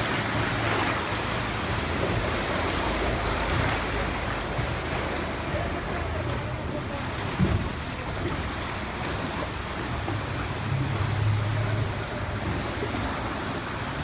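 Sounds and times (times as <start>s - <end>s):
motorboat engine hum: 0.0s - 14.0s
water wash: 0.0s - 14.0s.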